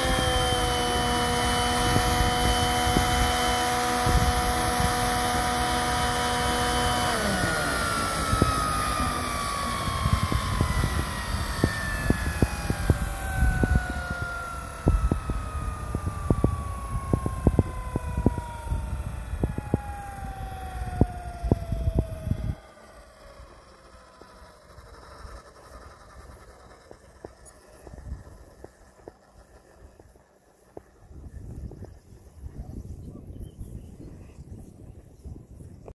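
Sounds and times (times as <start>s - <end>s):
rotors spinning down: 0.0s - 32.3s
model helicopter engine whine: 0.0s - 35.9s.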